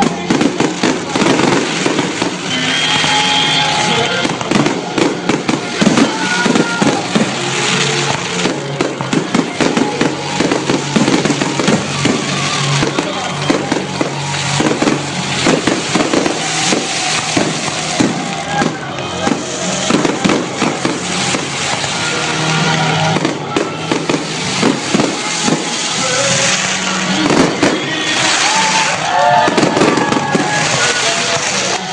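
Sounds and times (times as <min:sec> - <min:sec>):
faint music or voices: 0:00.0 - 0:31.9
fireworks bangs and crackles: 0:00.0 - 0:31.9.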